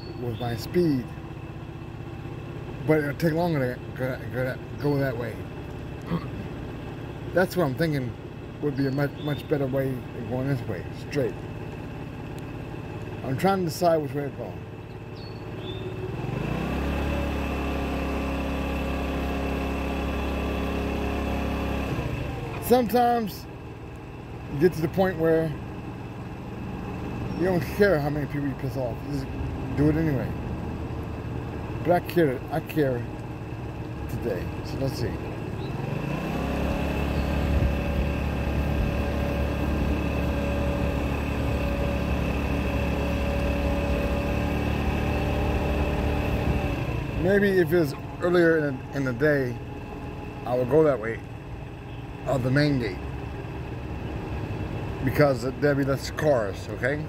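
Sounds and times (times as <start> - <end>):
moped engine idling: 0.0 - 16.2, 17.4 - 45.4, 46.4 - 57.0.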